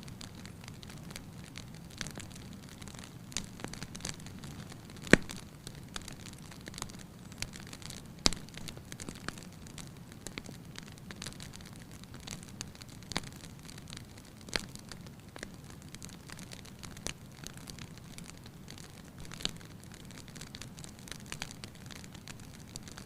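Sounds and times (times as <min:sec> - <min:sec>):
steady low hiss: 0:00.0 - 0:23.0
wood fire crackling and popping: 0:00.0 - 0:23.0.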